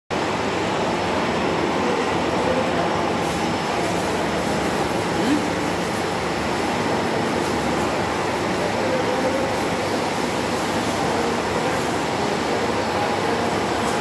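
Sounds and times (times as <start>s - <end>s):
hydraulic test rig running: 0.1s - 14.0s.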